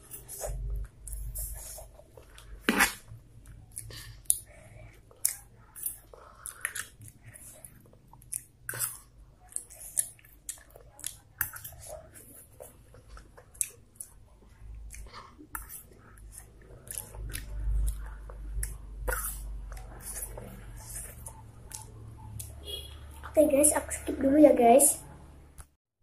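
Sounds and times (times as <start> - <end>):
chewing and mouth sounds: 0.0 - 24.1.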